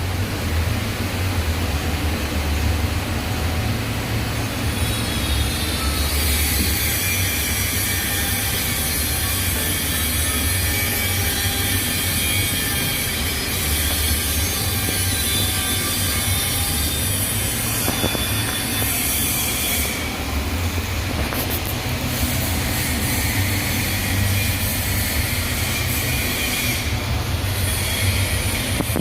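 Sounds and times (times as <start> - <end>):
welding arc hissing: 4.6 - 29.0.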